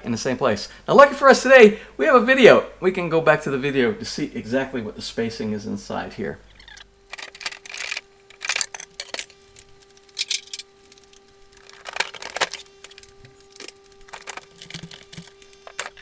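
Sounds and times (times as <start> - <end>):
refrigerator hum: 0.0 - 16.0.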